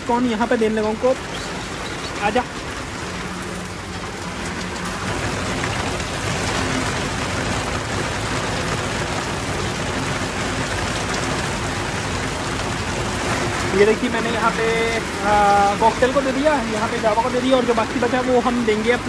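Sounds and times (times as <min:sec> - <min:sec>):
heavy rain on a metal roof: 0:00.0 - 0:19.0.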